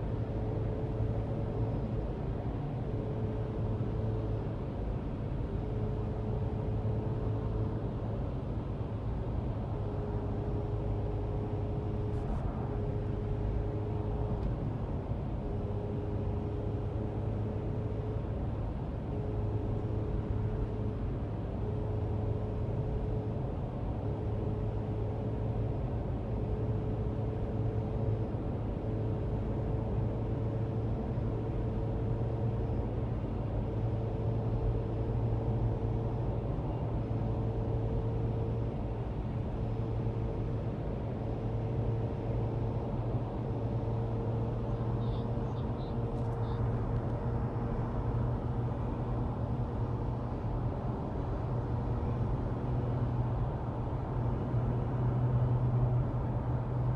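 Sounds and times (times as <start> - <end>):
car road and drive rumble: 0.0 - 56.9.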